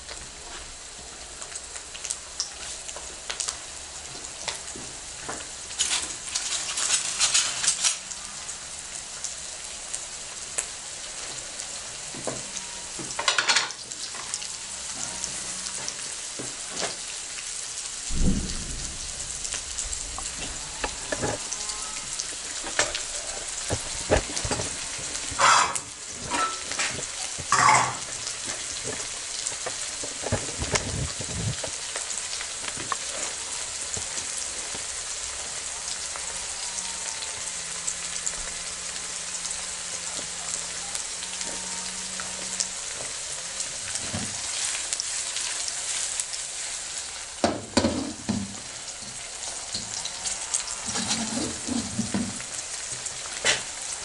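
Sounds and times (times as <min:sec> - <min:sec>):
onion sizzling in hot oil: 0:00.0 - 0:54.0.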